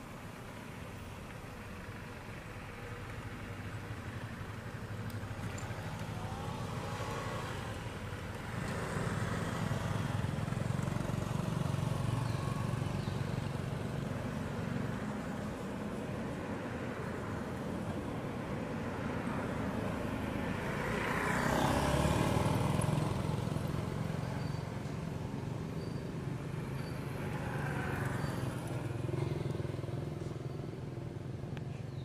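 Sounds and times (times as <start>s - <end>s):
vehicles driving past: 0.0s - 32.0s.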